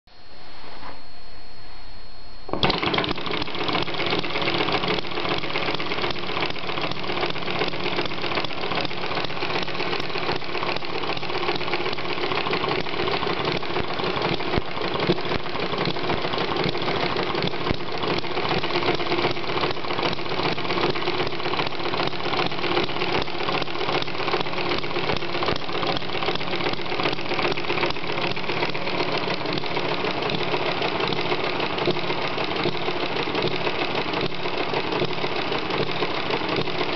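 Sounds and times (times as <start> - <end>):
small engine clattering: 2.6 - 36.9.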